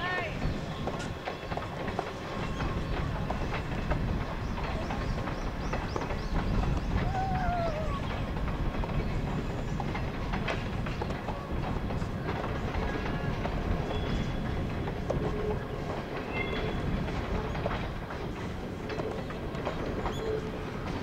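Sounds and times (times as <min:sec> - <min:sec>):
distant train rumbling: 0:00.0 - 0:21.0.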